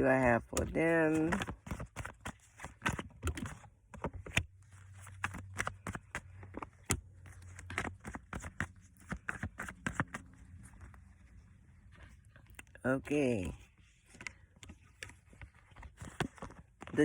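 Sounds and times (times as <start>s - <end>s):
tarot cards shuffling: 0.0s - 17.0s.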